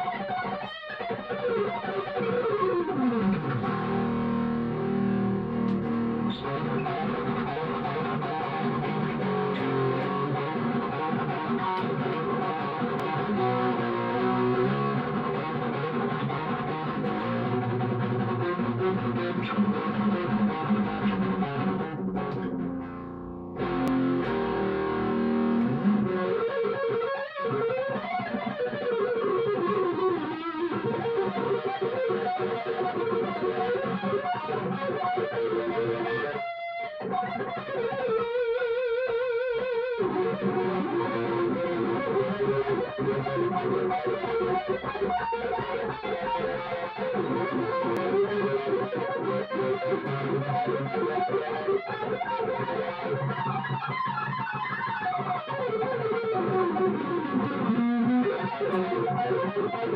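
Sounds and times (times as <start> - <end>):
electric guitar lead: 0.0 - 59.9.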